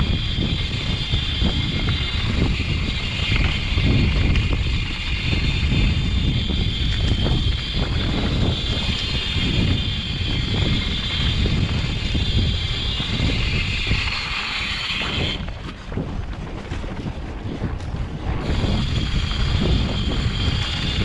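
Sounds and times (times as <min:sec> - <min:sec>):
bike tyres rolling on dirt: 0:00.0 - 0:21.0
wind buffeting microphone: 0:00.0 - 0:21.0.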